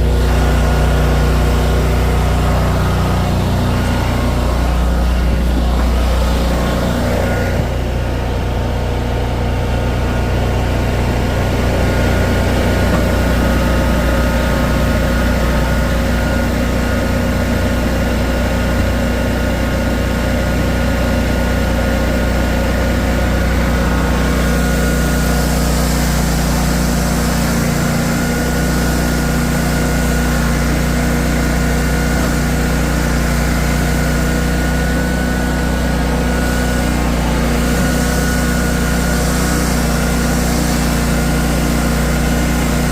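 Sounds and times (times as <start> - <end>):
engine droning steadily: 0.0 - 42.9.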